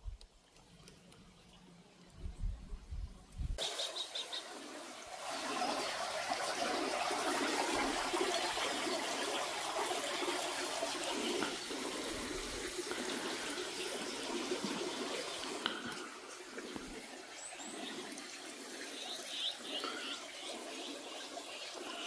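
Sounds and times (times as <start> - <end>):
running water rushing: 3.6 - 22.0.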